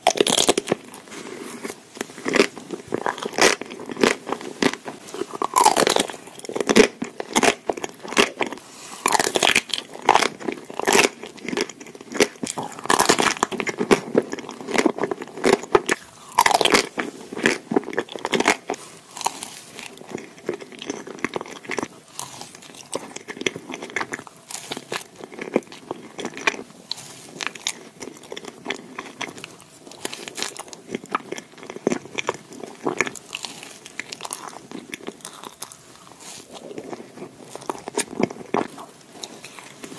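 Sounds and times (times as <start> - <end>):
crunchy chewing of ice cream bar: 0.0 - 39.9
soft chewing: 0.0 - 39.9.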